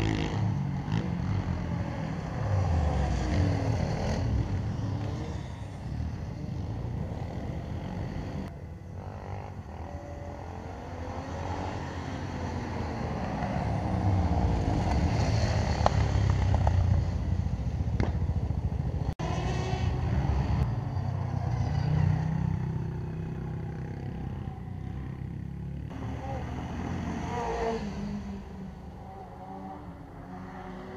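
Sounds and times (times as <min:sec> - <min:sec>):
quad bike engines buzzing: 0:00.0 - 0:30.9.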